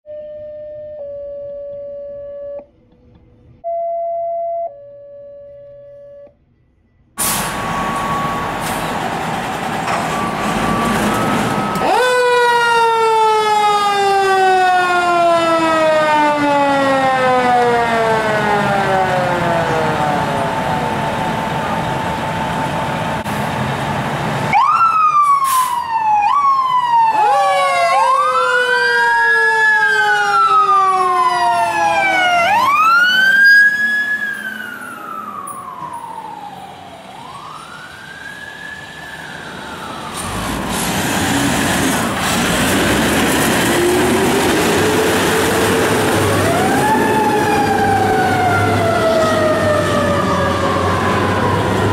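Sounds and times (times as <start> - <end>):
fire truck siren wailing: 7.2 - 51.9.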